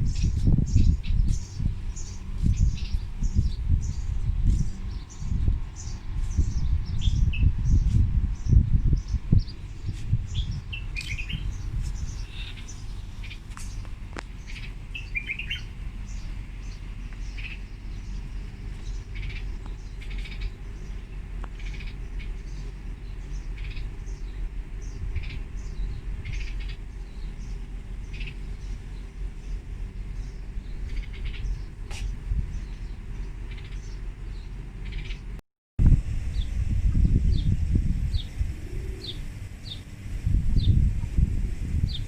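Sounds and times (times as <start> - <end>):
small birds chirping: 0.0 - 35.4, 37.1 - 39.9
steady low rumble: 0.0 - 42.0.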